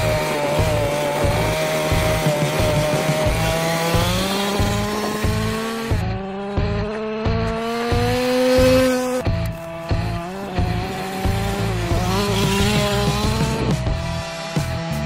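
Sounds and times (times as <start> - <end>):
background music with beat: 0.0 - 15.0
small two-stroke engine revving: 0.0 - 15.0.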